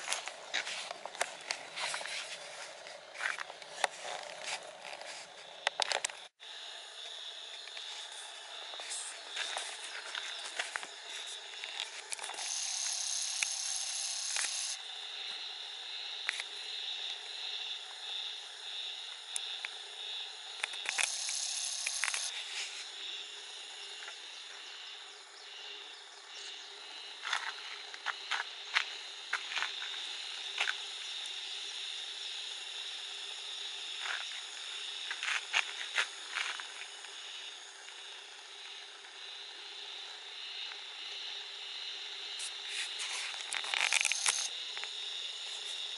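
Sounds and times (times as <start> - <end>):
outdoor ambience hiss: 0.0 - 45.9.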